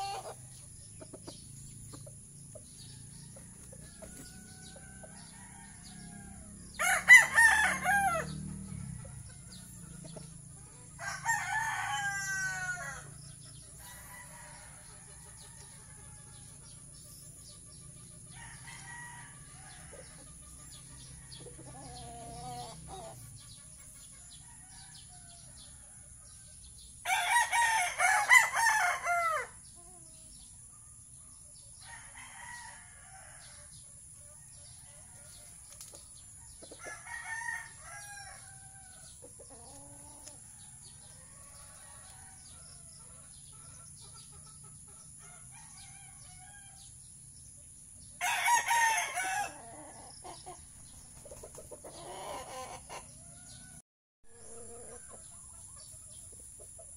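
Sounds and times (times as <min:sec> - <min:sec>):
young roosters crowing: 0:00.0 - 0:00.9, 0:02.7 - 0:16.9, 0:18.1 - 0:23.3, 0:24.2 - 0:30.4, 0:31.7 - 0:44.0, 0:45.0 - 0:47.1, 0:48.2 - 0:50.6, 0:51.8 - 0:55.6.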